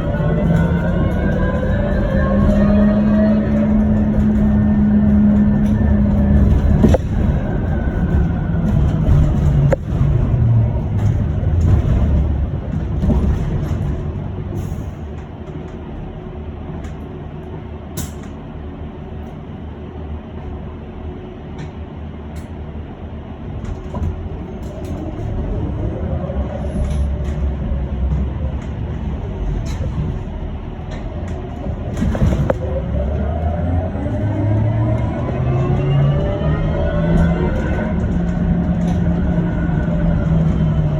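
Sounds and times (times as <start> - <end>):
road rumble inside bus: 0.0 - 40.9.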